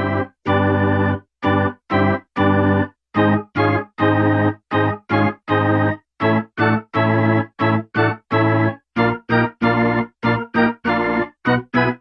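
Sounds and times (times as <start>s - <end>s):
keyboard chord stabs: 0.0s - 12.0s.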